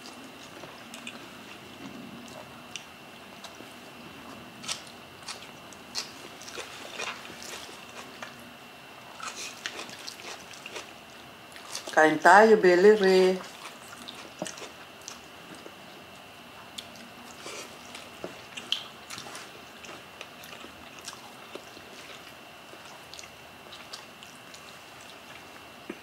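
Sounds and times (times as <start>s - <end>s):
people chewing: 0.0s - 8.4s, 9.0s - 12.0s, 13.4s - 26.0s.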